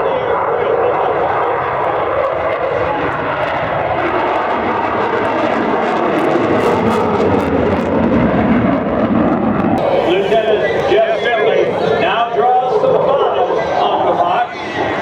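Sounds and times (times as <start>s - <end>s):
jet aircraft engine rushing: 0.0s - 15.0s.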